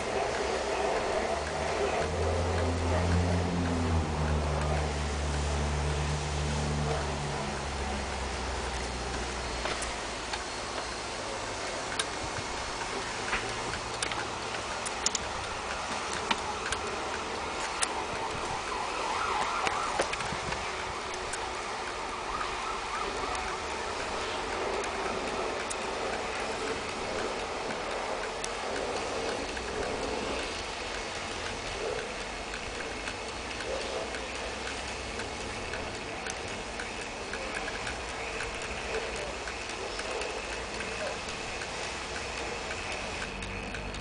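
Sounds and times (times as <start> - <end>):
steady background hiss: 0.0 - 44.0
wall clock ticking: 0.0 - 44.0.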